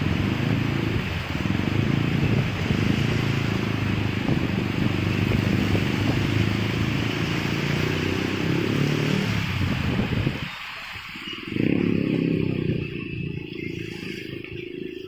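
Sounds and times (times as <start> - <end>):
motorcycle engine at low revs: 0.0 - 10.6, 11.4 - 15.0
steady hiss: 0.0 - 15.0.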